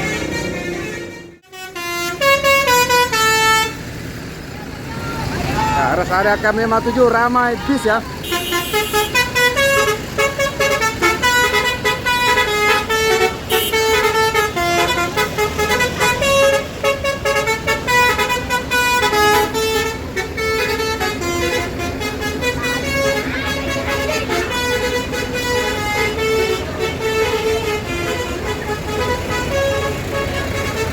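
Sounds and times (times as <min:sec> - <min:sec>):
multi-tone bus horn tune: 0:00.0 - 0:04.2, 0:04.9 - 0:30.9.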